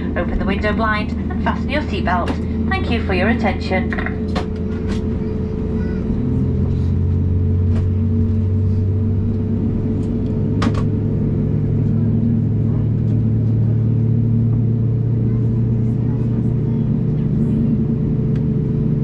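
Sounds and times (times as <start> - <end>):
aircraft cabin hum: 0.0 - 19.0.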